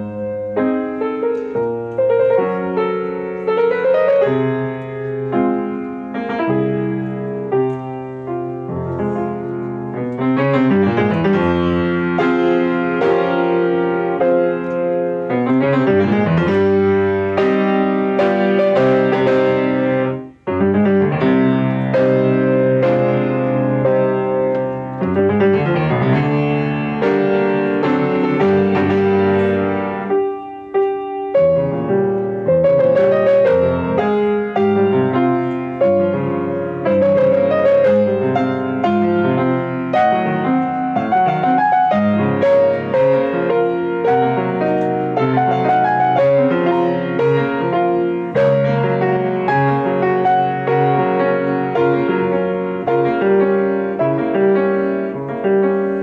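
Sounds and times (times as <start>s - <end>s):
solo piano playing: 0.0s - 56.0s.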